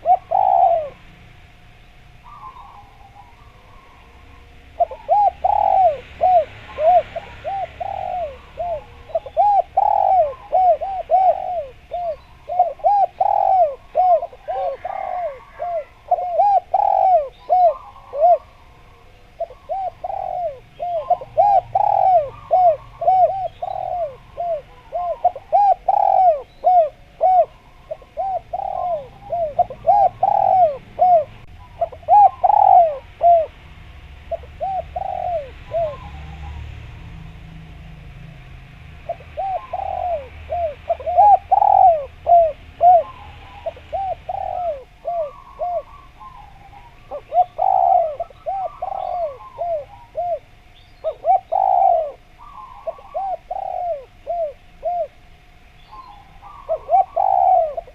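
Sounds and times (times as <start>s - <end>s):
doves cooing: 0.0s - 57.9s
small birds chirping: 0.0s - 57.9s.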